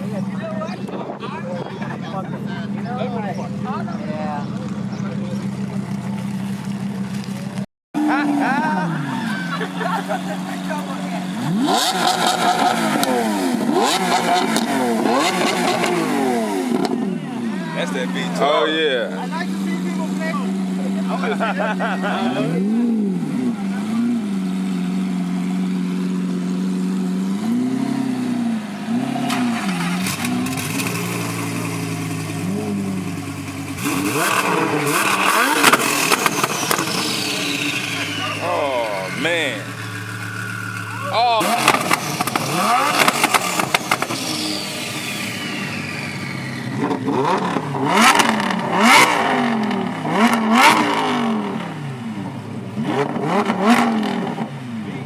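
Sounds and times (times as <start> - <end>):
exhaust crackles: 0.0 - 55.0
supercar engines revving: 0.0 - 55.0.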